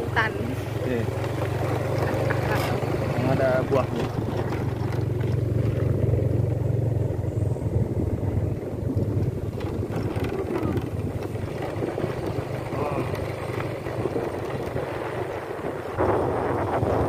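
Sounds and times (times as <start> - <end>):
motorcycle engine running: 0.0 - 17.0
wind rush on microphone: 1.4 - 17.0.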